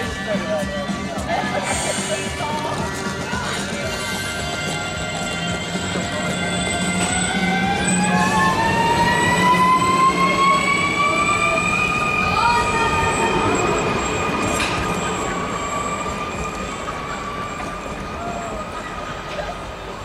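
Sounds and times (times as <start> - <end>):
electric train drive whining: 0.0 - 20.0.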